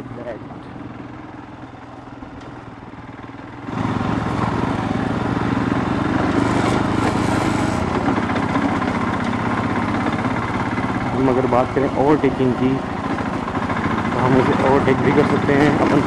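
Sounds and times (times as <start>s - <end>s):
motorcycle engine on dirt track: 0.0s - 16.0s.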